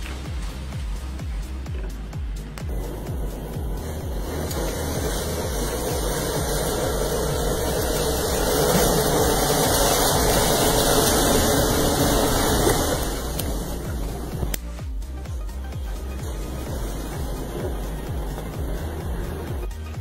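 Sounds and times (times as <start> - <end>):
matches burning with rushing hiss: 0.0 - 20.0.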